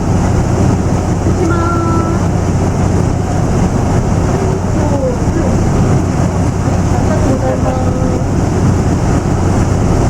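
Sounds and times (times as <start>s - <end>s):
train running on rails: 0.0s - 10.0s.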